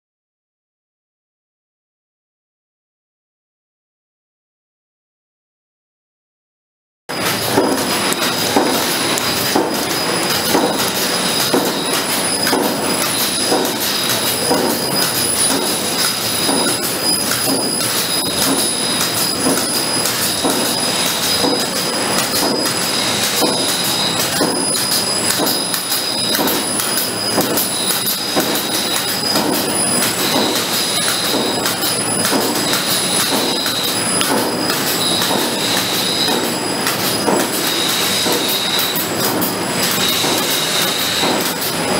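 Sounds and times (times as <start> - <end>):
printing press clatter: 7.1 - 41.9.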